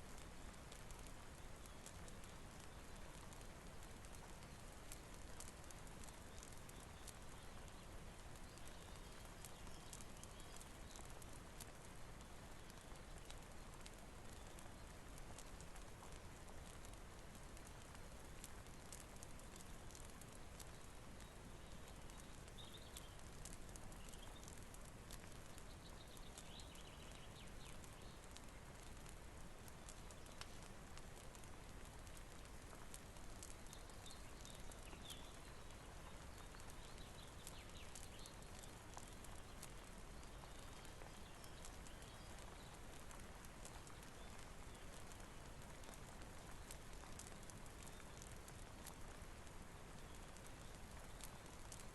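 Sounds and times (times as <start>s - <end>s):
rain hiss: 0.0s - 51.9s
wood fire crackling: 0.0s - 51.9s.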